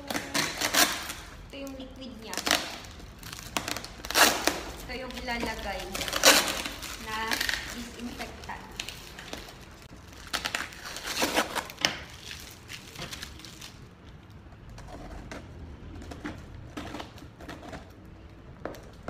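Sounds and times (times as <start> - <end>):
packing tape cut and torn: 0.0 - 18.2
plastic packaging crinkling: 0.0 - 19.0.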